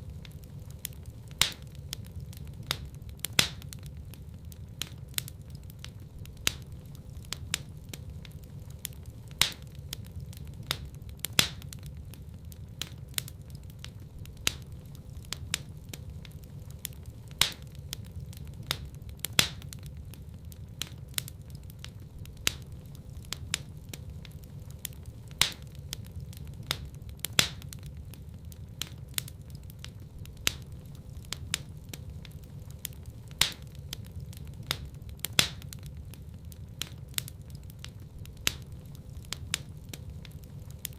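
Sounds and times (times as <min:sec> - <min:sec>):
fire flames rumbling: 0:00.0 - 0:40.9
logs crackling and popping: 0:00.0 - 0:40.9.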